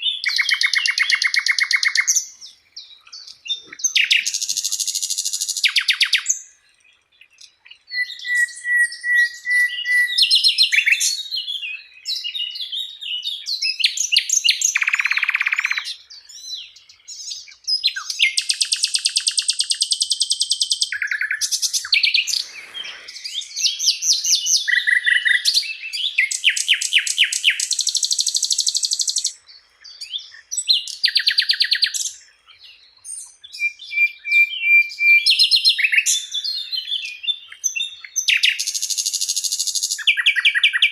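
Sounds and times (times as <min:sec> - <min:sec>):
songbird trills and chirps: 0:00.0 - 0:40.9.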